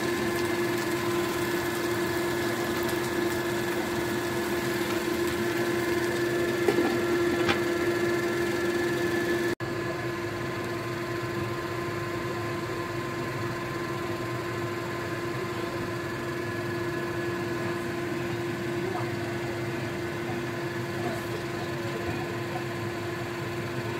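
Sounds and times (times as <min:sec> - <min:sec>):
steady machine hum: 0:00.0 - 0:23.9.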